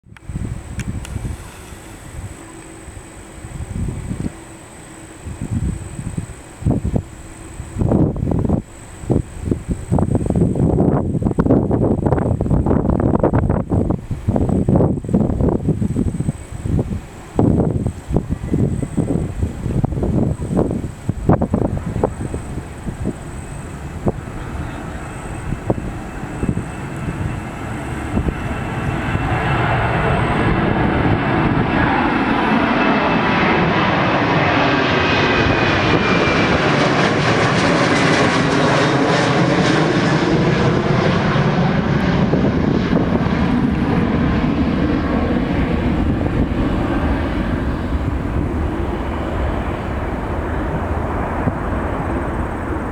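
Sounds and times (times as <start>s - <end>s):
jet airliner passing: 0.1s - 52.9s.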